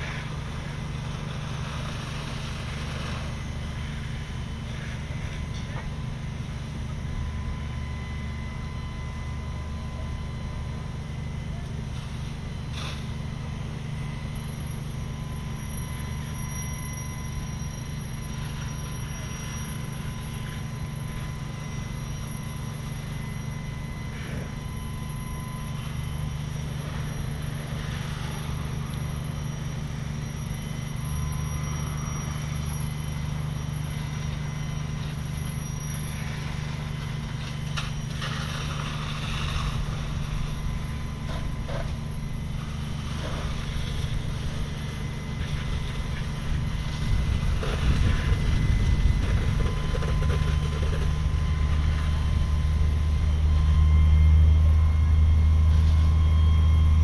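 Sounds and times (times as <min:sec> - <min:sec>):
diesel engines running pumps: 0:00.0 - 0:57.0.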